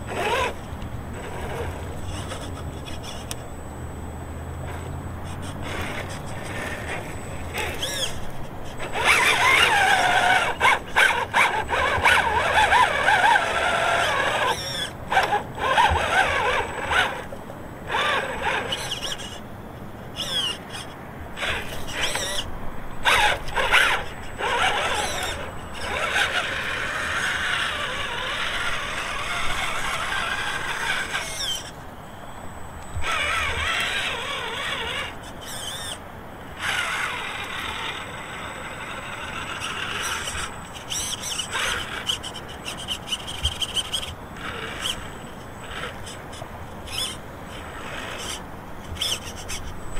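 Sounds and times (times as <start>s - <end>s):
toy truck electric motor whining: 0.0s - 3.4s, 4.6s - 19.5s, 20.1s - 49.9s.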